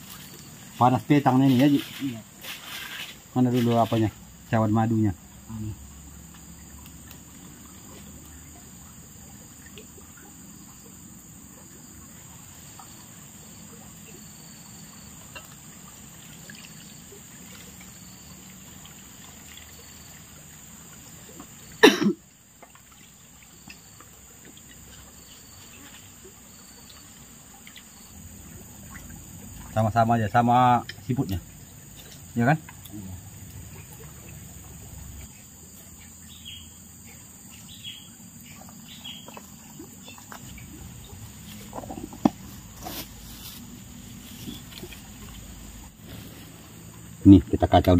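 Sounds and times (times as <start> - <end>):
faint insect chirps: 0.0 - 47.9
insect chorus buzzing: 0.0 - 47.9
low background hiss: 0.0 - 47.9.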